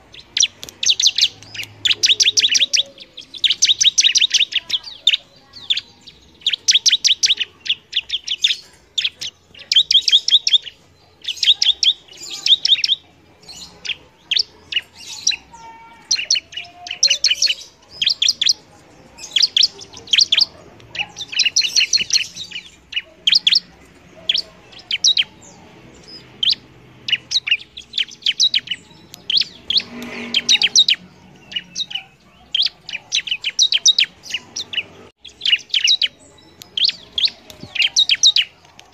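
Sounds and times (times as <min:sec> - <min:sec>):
bird chirping and trilling: 0:00.0 - 0:38.9.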